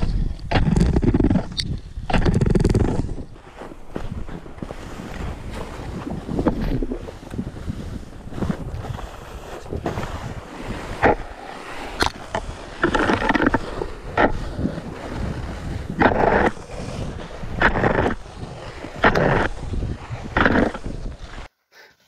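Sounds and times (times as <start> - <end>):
wind buffeting microphone: 0.0 - 21.5
snowboard scraping over snow: 2.4 - 21.5.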